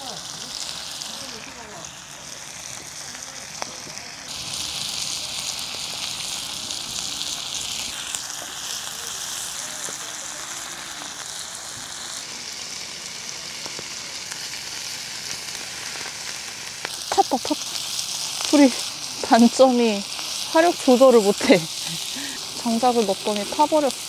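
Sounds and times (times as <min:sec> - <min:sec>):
meat sizzling on a griddle: 0:00.0 - 0:24.0.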